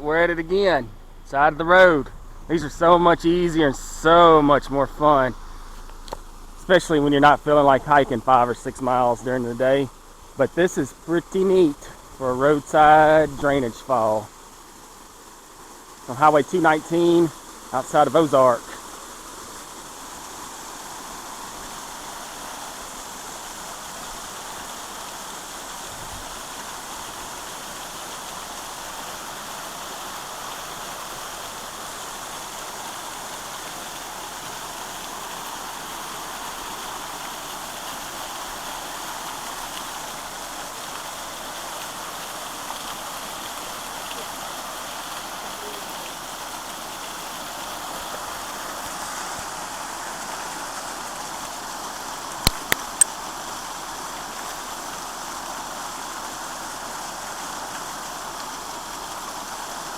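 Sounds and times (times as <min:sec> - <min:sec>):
water pouring and splashing: 0:02.1 - 0:59.9.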